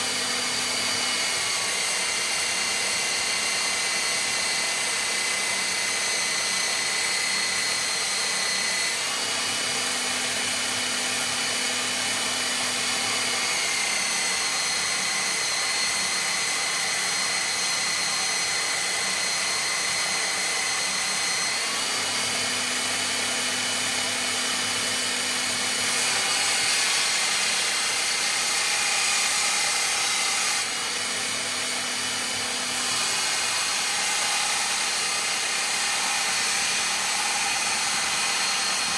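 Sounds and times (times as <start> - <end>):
belt sander grinding steel: 0.0 - 38.9.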